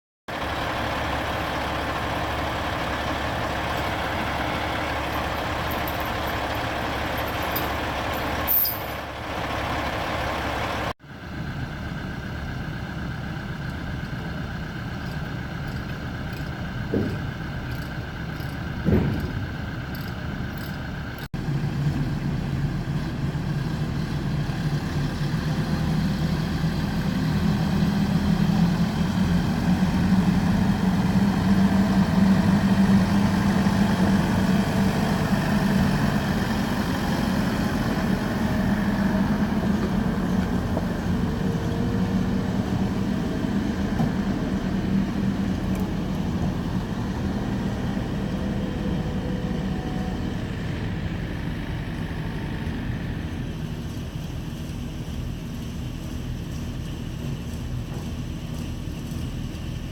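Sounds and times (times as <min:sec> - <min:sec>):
diesel truck engine running: 0:00.3 - 0:59.9.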